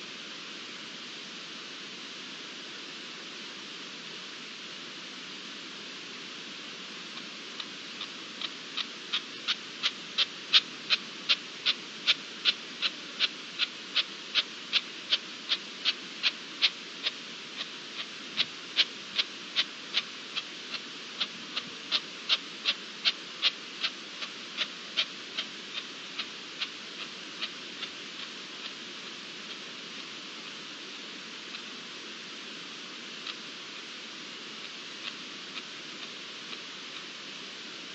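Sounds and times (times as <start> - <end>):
steady hiss: 0.0 - 37.9.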